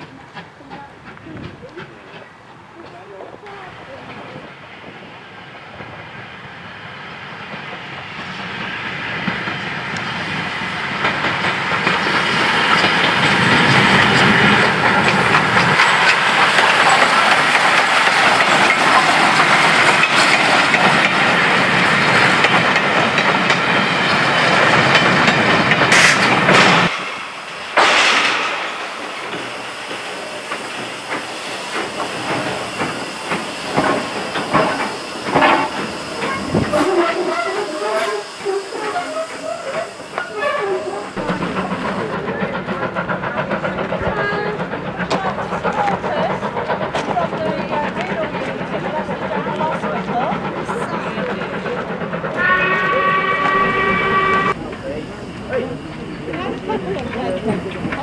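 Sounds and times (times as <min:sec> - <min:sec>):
steam train passing: 0:00.0 - 0:58.0
train wheels clattering on rails: 0:00.0 - 0:58.0
steam hissing: 0:00.1 - 0:58.0.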